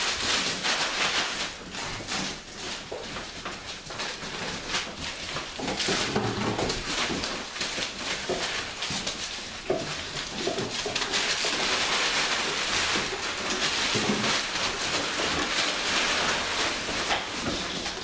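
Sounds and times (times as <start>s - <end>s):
paper crinkling and rustling: 0.0s - 18.0s.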